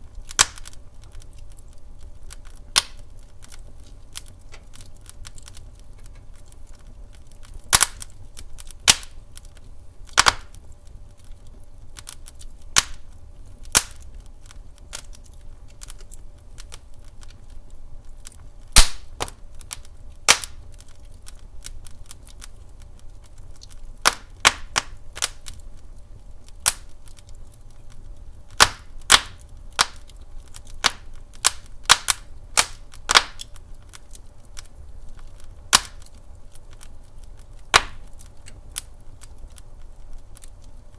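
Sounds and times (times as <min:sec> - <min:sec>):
fireplace crackling and popping: 0:00.0 - 0:40.9.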